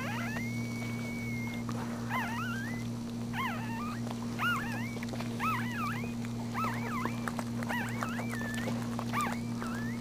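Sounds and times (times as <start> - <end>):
puppies squeaking: 0.0 - 10.0
steady low hum: 0.0 - 10.0.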